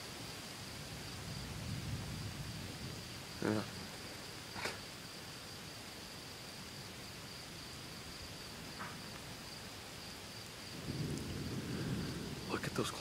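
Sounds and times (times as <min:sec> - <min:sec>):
crickets trilling: 0:00.0 - 0:13.0
light rain hiss: 0:00.0 - 0:13.0.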